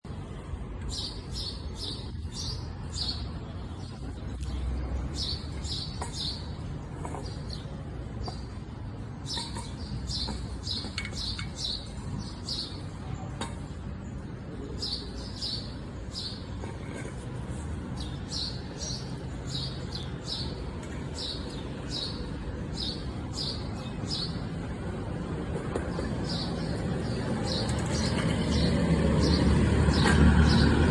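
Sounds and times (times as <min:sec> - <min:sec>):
small birds chirping: 0:00.2 - 0:30.9.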